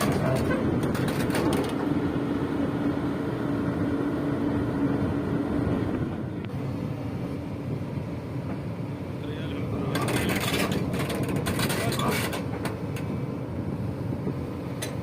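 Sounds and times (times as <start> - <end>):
heavy vehicle engine rumbling: 0.0 - 15.0.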